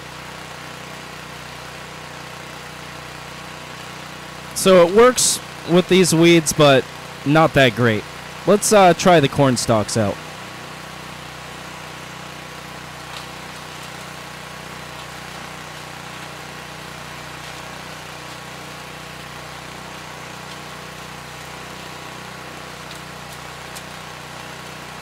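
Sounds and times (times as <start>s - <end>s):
single-cylinder engine running: 0.1s - 25.0s.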